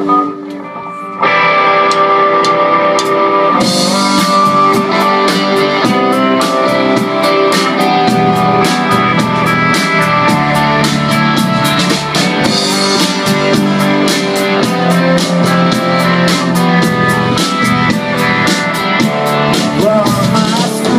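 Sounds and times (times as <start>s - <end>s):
ringing electric guitars: 0.0s - 20.9s
rock band playing: 0.0s - 20.9s
drums with cymbals: 2.5s - 20.9s.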